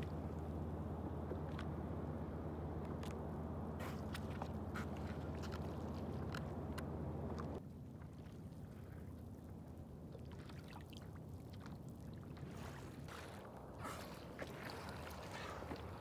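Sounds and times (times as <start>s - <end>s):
low steady rumble: 0.0s - 16.0s
water lapping against boat: 0.0s - 16.0s.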